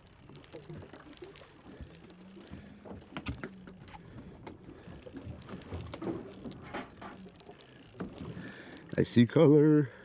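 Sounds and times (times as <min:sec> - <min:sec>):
small clicks and knocks: 0:00.0 - 0:09.0.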